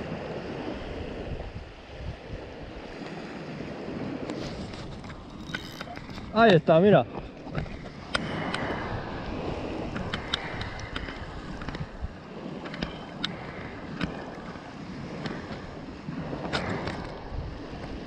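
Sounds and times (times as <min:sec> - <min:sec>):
small waves washing on shore: 0:00.0 - 0:18.0
wind buffeting microphone: 0:00.0 - 0:18.0.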